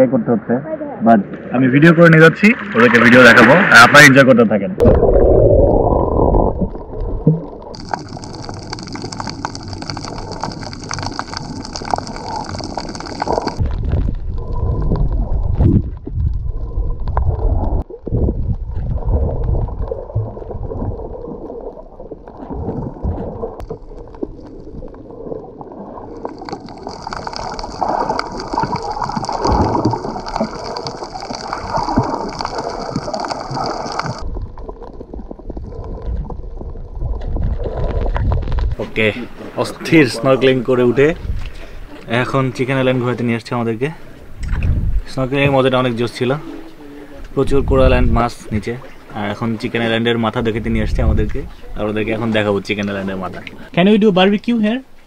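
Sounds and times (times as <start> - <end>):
water gurgling and sloshing: 0.0 - 55.0.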